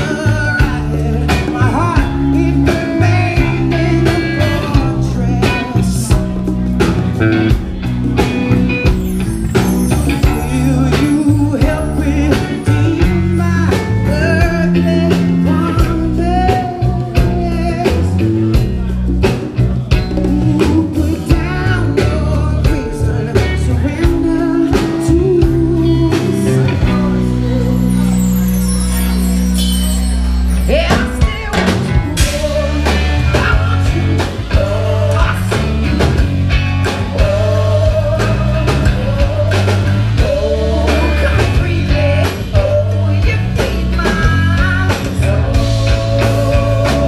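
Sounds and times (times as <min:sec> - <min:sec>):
person singing: 0:00.0 - 0:07.6, 0:08.2 - 0:47.0
drum kit: 0:00.0 - 0:47.0
electric bass: 0:00.0 - 0:47.0
keyboard: 0:00.0 - 0:47.0.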